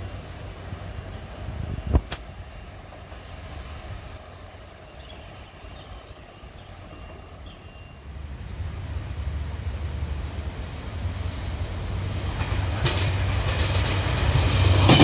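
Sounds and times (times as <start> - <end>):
diesel train approaching: 0.0 - 15.0.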